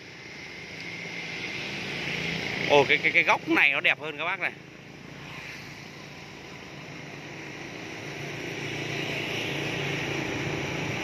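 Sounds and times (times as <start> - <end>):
motor vehicle approaching: 0.0 - 11.0.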